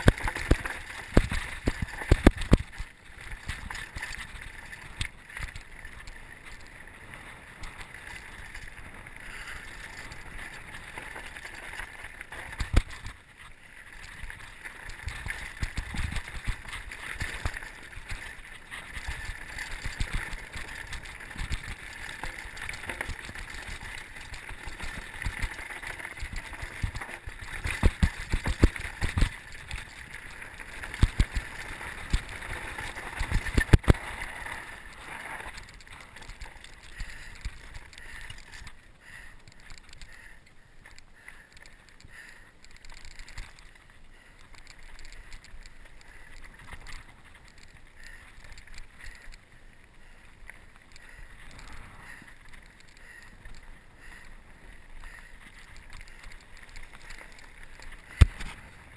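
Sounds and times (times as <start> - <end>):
bike knocking and rattling: 0.0 - 49.4
wind and tyre noise: 0.0 - 58.9.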